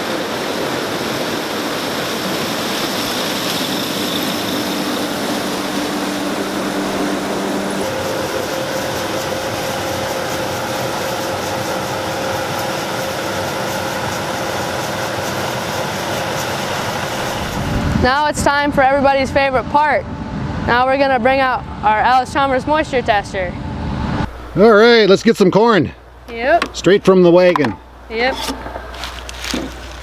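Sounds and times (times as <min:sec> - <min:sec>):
combine harvester running: 0:00.0 - 0:30.0.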